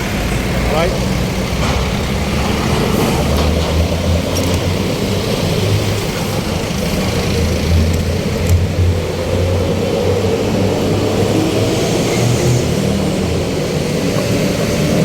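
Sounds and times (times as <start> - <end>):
road traffic rumble: 0.0 - 15.0
vehicle engines idling: 0.0 - 15.0.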